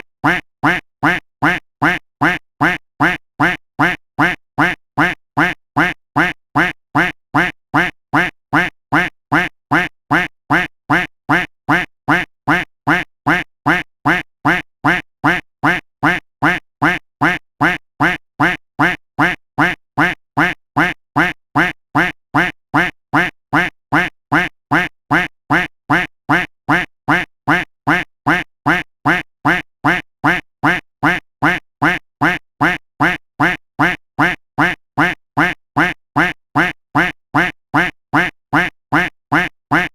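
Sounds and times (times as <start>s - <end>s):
duck quacking: 0.0s - 39.9s.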